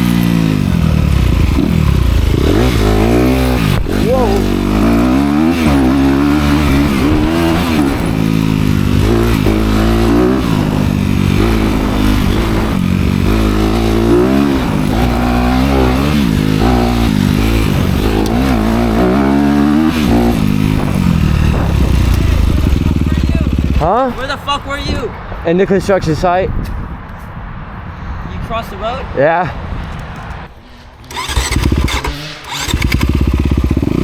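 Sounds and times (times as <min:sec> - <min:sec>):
dirt bike engine revving: 0:00.0 - 0:24.4, 0:31.0 - 0:34.0.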